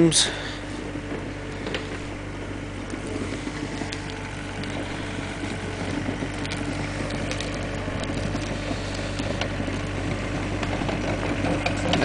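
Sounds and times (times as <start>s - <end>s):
loader engine droning: 0.0s - 12.0s.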